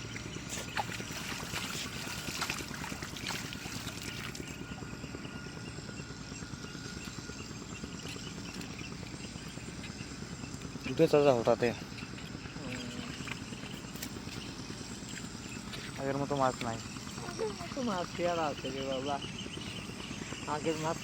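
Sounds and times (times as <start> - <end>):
water splashing and trickling: 0.0 - 4.9, 8.1 - 21.0.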